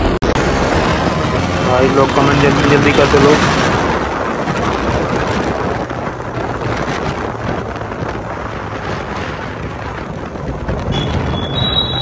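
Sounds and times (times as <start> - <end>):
motorcycle engine drone: 0.0 - 12.0
wind rushing over microphone: 0.0 - 12.0.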